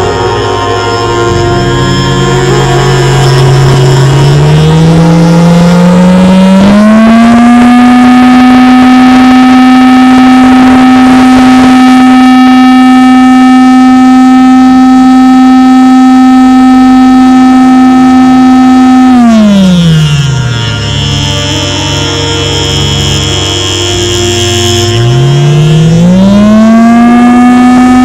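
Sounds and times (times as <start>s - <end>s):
siren wailing: 0.0s - 28.0s.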